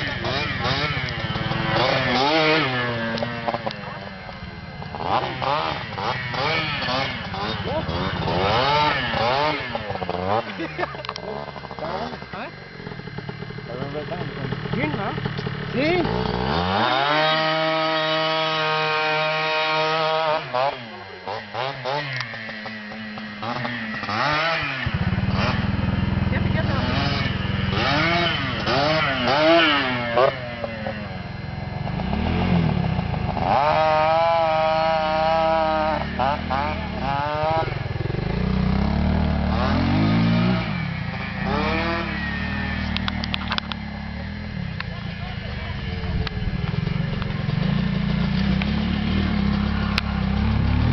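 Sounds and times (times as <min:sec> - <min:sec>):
small motorcycle engine revving: 0:00.0 - 0:50.9.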